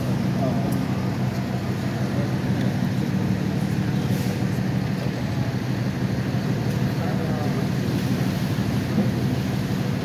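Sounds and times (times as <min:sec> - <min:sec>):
street traffic noise: 0:00.0 - 0:10.0
vehicle engine idling: 0:00.0 - 0:10.0.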